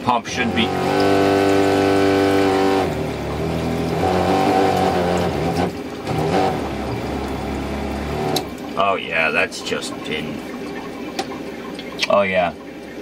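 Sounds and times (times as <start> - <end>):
water pump humming: 0.0 - 13.0.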